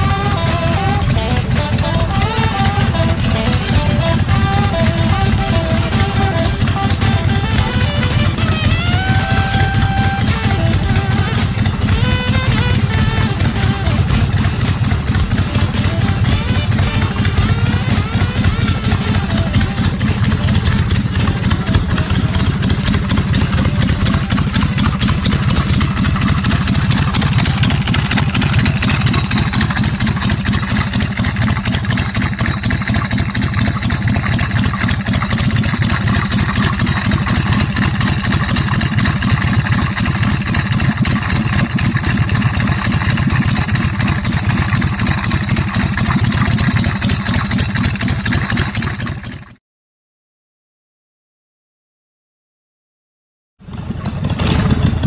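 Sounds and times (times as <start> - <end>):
motorcycle engine running: 0.0 - 49.6, 53.6 - 55.0.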